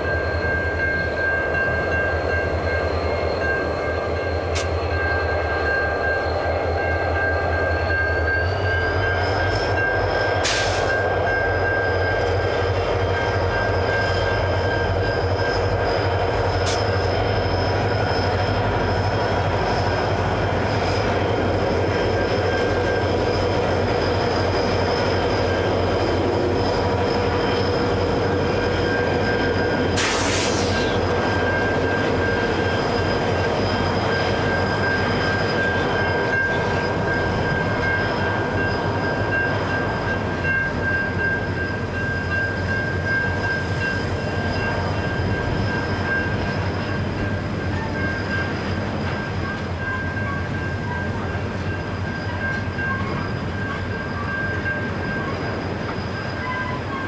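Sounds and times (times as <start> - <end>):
crossing warning bell ringing: 0.0 - 57.0
wheels whining and squealing: 0.0 - 57.0.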